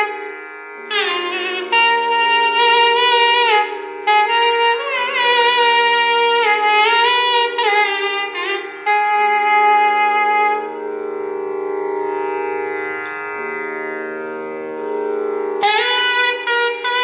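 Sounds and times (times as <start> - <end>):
reed wind instrument melody: 0.0 - 17.0.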